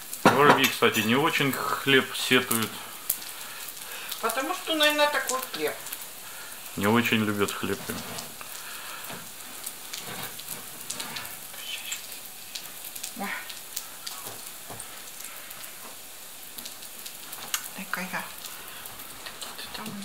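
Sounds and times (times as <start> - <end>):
oil popping and crackling: 0.0 - 20.0
pancakes sizzling in oil: 0.0 - 20.0.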